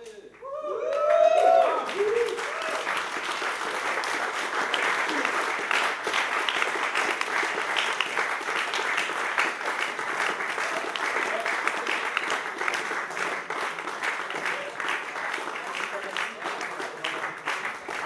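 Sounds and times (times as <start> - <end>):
audience applauding: 0.4 - 18.0.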